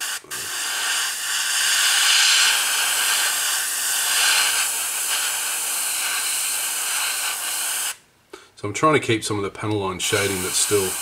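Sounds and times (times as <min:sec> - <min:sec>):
airbrush hissing: 0:00.0 - 0:08.0, 0:10.0 - 0:11.0.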